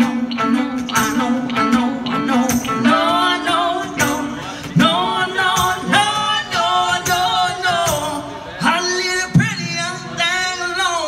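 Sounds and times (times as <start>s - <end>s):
strummed guitars: 0.0s - 11.0s.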